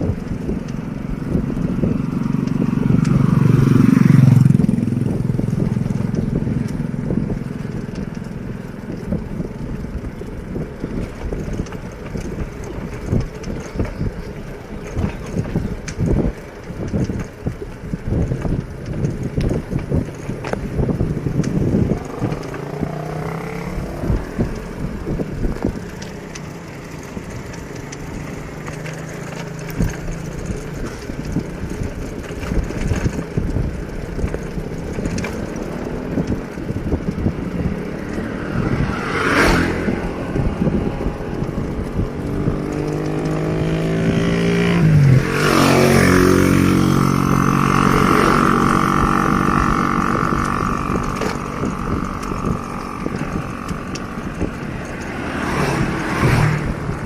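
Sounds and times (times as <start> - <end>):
bicycle road rumble: 0.0 - 57.0
motor vehicle passing: 0.0 - 57.0
wind: 0.0 - 57.0.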